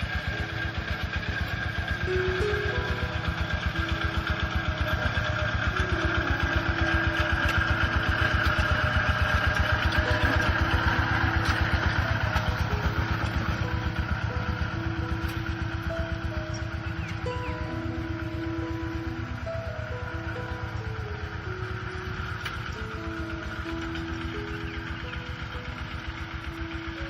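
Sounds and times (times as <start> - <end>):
tractor diesel engine chugging: 0.0 - 27.0.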